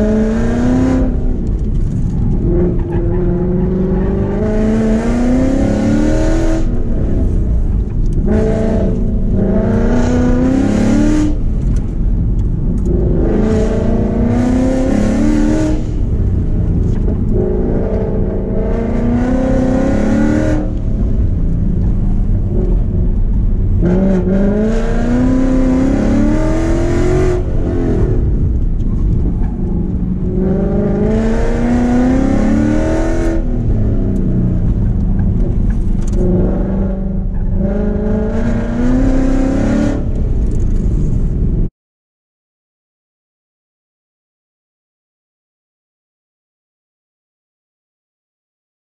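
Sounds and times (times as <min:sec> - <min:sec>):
car engine revving: 0:00.0 - 0:41.7.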